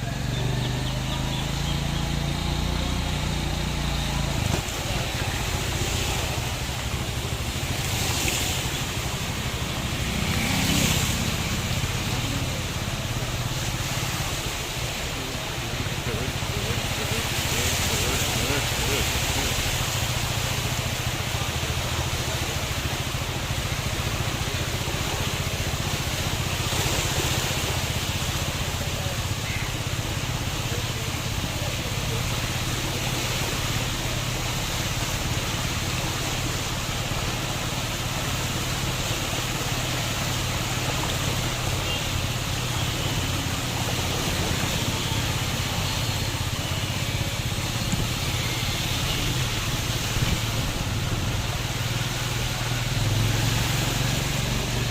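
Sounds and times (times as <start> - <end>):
vehicle running noise: 0.0 - 54.9.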